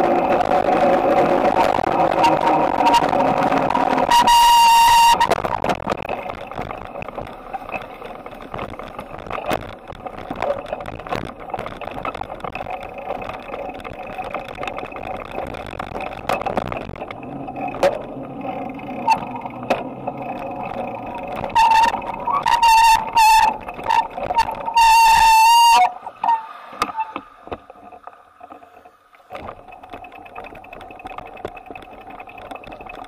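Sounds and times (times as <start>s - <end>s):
bike clicking and rattling over bumps: 0.0s - 33.0s
tyre and road noise: 0.0s - 33.0s.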